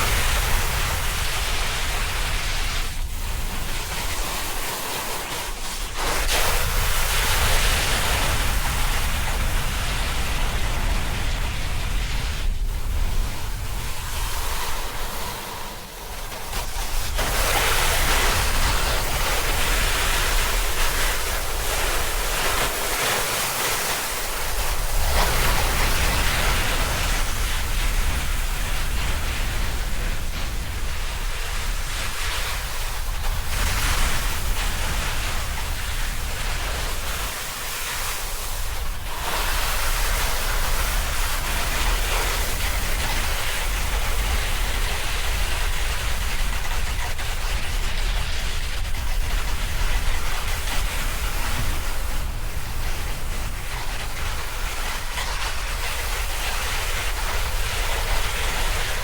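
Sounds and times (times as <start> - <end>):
board scraping on snow: 0.0 - 59.0
snowboard sliding over snow: 0.0 - 59.0
wind buffeting microphone: 0.0 - 59.0.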